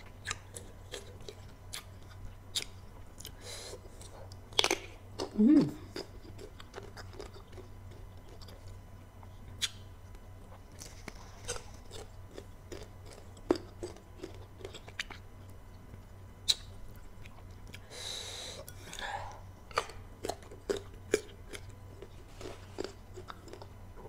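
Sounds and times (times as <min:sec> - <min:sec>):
crunchy chewing: 0:00.0 - 0:17.9, 0:18.6 - 0:24.0.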